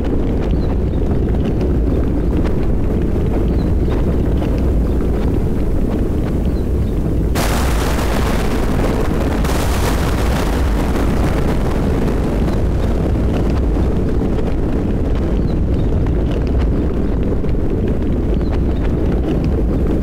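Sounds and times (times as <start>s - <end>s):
raindrop ticks: 0.0s - 20.0s
thunder crack and rumble: 0.0s - 20.0s.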